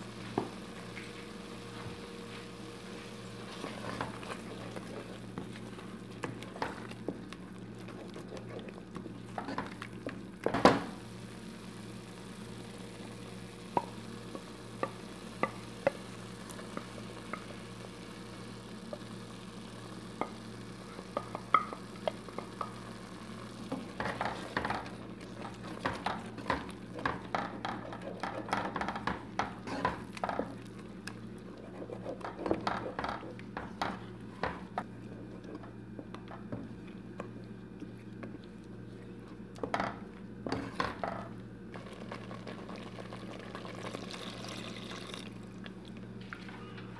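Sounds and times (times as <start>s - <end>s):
wooden spoon stirring in pot: 0.1s - 11.0s, 11.6s - 46.9s.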